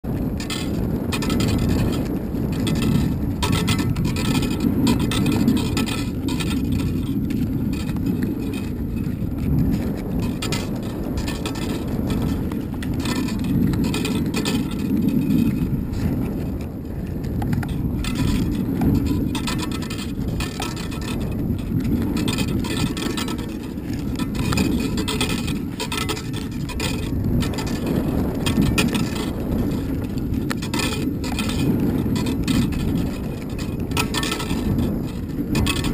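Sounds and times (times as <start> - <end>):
rig rattling and clicking: 0.0 - 35.9
wind buffeting camera: 0.0 - 35.9.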